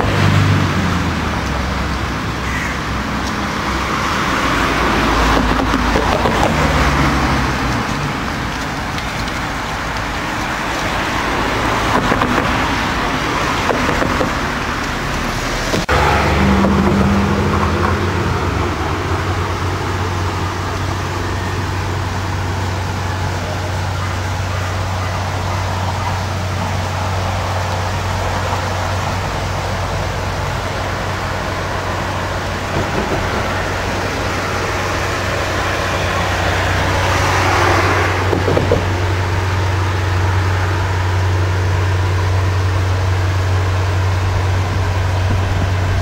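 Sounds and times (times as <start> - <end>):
cars passing: 0.0 - 46.0.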